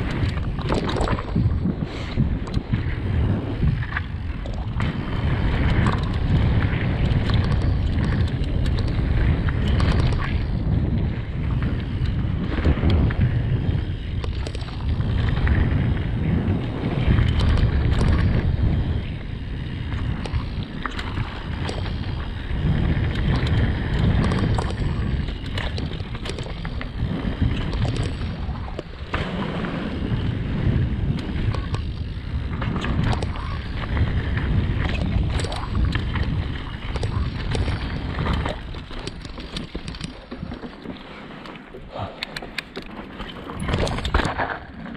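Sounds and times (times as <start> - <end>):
bike clicks and rattles: 0.0 - 44.9
tyres rumbling on dirt trail: 0.0 - 44.9
wind rushing over microphone: 0.0 - 44.9.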